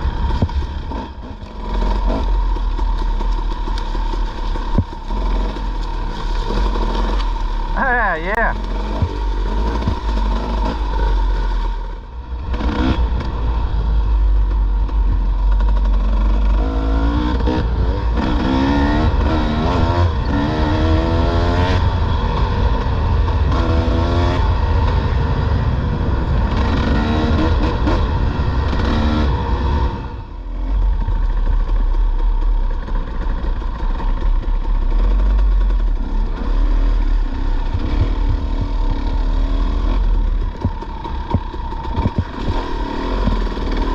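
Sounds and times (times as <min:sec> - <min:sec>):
dirt bike engine revving: 0:00.0 - 0:25.5, 0:26.3 - 0:31.8, 0:34.8 - 0:43.9.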